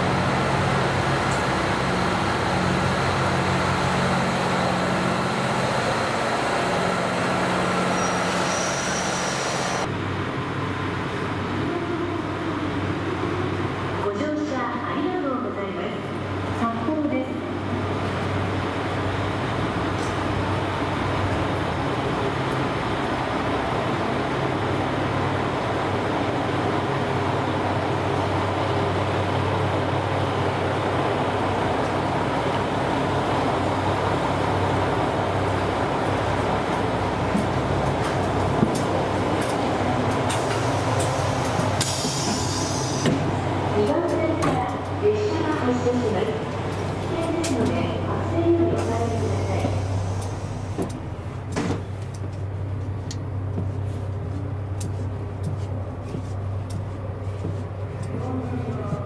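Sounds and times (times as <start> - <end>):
diesel railcar engines idling: 0.0 - 59.0
train cabin drone: 0.0 - 59.0.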